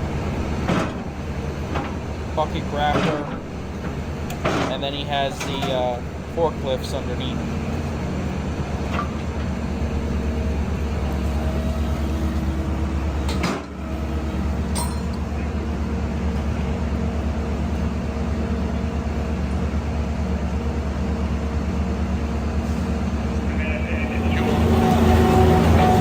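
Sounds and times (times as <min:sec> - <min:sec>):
heavy engine idling: 0:00.0 - 0:26.0.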